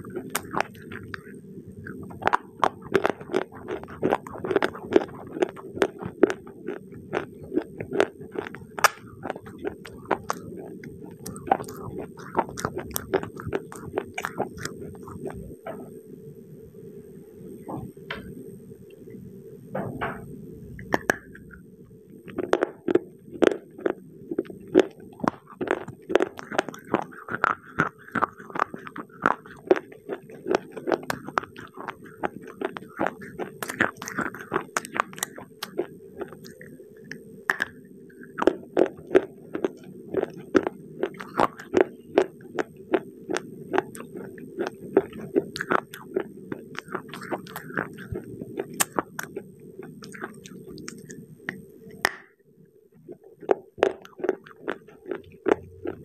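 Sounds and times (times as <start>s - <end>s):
chewing crunchy clay: 0.0s - 15.6s, 20.8s - 21.6s, 22.2s - 52.3s, 53.0s - 56.0s.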